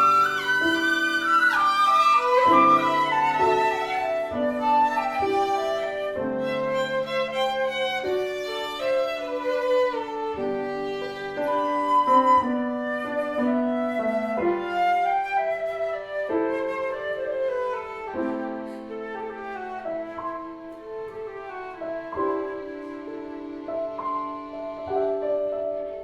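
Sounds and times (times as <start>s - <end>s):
instrumental trio playing melody: 0.0s - 26.0s.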